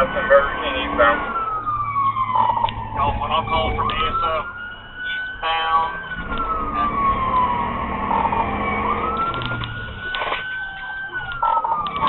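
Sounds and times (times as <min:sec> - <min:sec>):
engine and road noise: 0:00.0 - 0:12.0
police siren wailing: 0:00.0 - 0:12.0.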